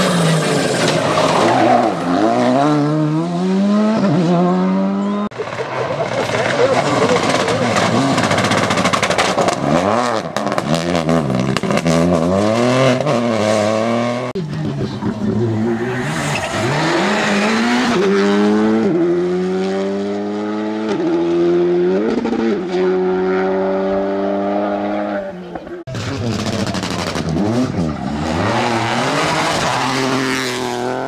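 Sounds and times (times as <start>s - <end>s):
rally car accelerating hard: 0.0s - 31.0s
rally car engine revving: 0.0s - 31.0s.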